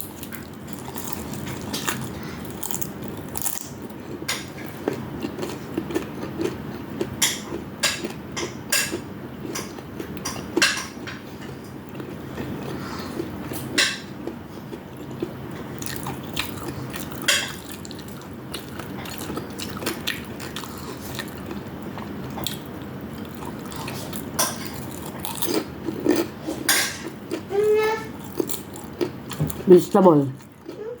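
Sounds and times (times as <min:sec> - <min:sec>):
chewing fried food: 0:00.0 - 0:29.7, 0:30.3 - 0:31.0
low background hum: 0:00.0 - 0:31.0.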